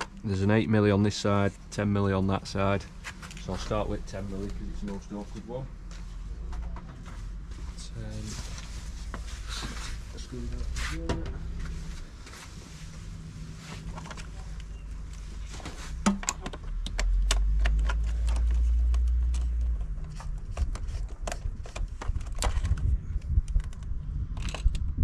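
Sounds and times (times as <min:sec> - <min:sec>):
low rumble: 0:01.6 - 0:15.7, 0:16.9 - 0:25.0.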